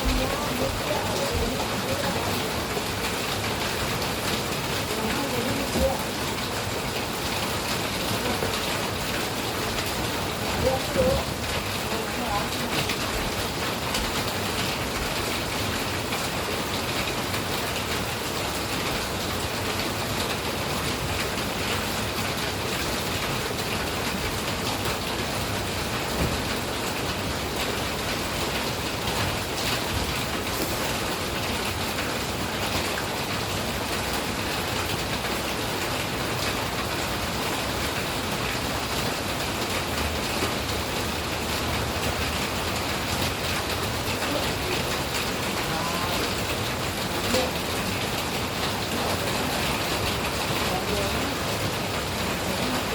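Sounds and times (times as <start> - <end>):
steady rain pattering: 0.0 - 52.9.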